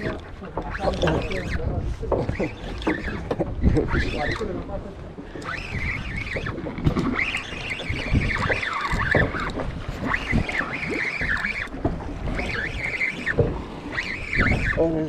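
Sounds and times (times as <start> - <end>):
fishing reel gears whirring: 0.0 - 15.0
wind buffeting microphone: 0.0 - 15.0.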